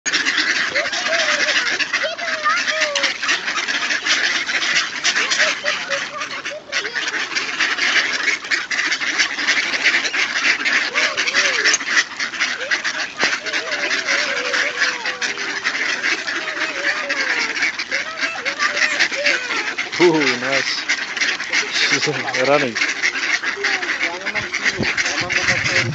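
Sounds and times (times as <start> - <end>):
flock of ducks quacking: 0.1 - 25.9.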